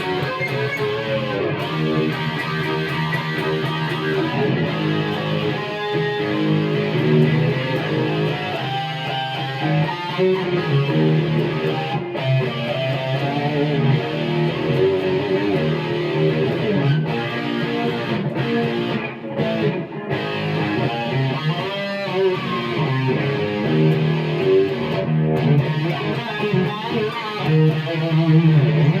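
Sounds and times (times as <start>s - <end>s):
electric guitar chords: 0.0s - 29.0s.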